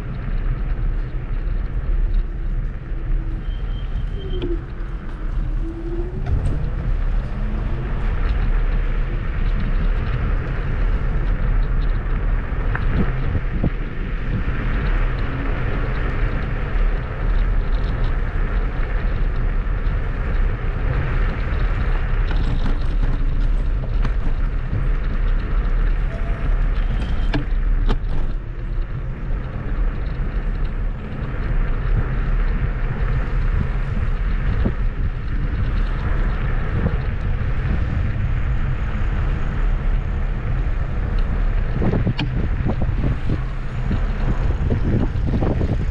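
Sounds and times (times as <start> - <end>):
tyre rumble: 0.0 - 45.9
wind buffeting microphone: 0.0 - 45.9.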